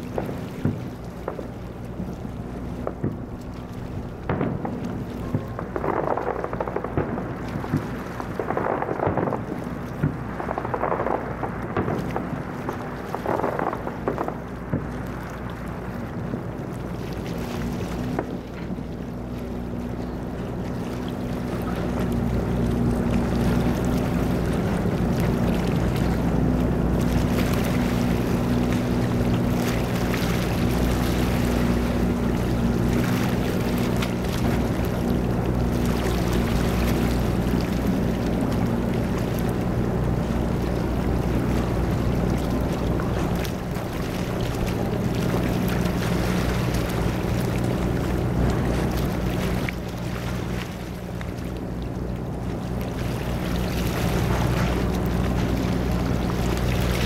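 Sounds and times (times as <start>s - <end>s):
low engine drone: 0.0s - 57.0s
water noise: 0.0s - 57.0s.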